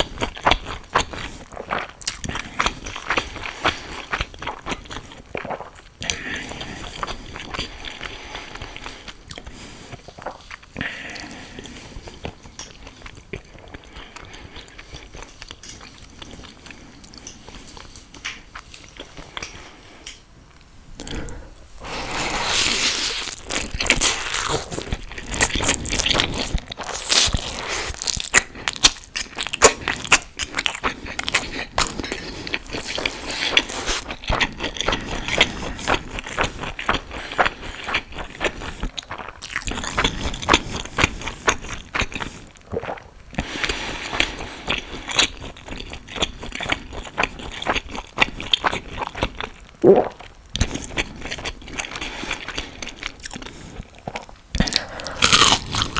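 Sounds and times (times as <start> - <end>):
person chewing crunchy food: 0.0 - 19.9, 21.0 - 55.9.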